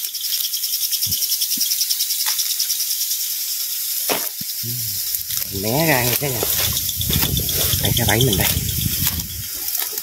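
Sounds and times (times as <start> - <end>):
insect chirring: 0.0 - 10.0
steady hiss: 0.0 - 10.0.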